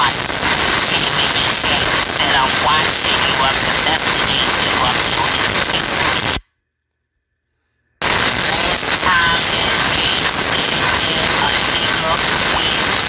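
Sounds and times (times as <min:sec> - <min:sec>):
audio static hiss: 0:00.0 - 0:13.0.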